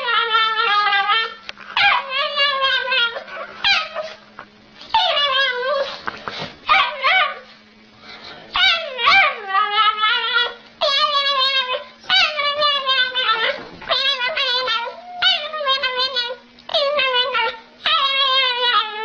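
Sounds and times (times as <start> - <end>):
dog whining and yowling: 0.0 - 4.2, 4.9 - 6.0, 6.7 - 7.5, 8.5 - 19.0.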